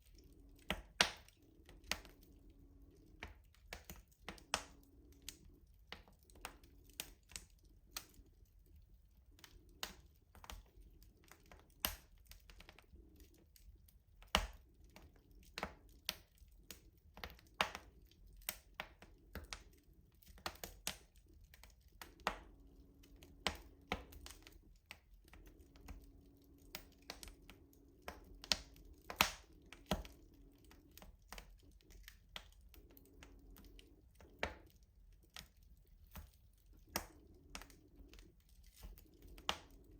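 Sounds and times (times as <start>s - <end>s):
low rumble of burning fire: 0.0s - 39.9s
wood fire crackling and popping: 0.0s - 39.9s.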